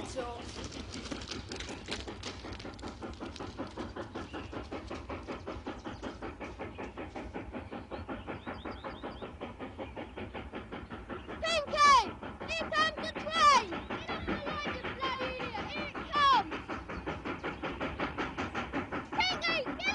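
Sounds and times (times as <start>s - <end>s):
distant train approaching: 0.0s - 19.9s.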